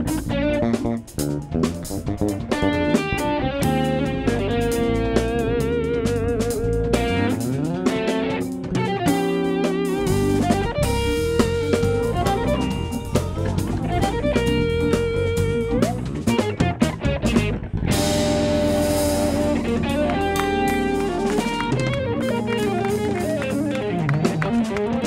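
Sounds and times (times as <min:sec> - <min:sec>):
electric guitar lead with vibrato: 0:00.0 - 0:25.0
live funk band playing: 0:00.0 - 0:25.0.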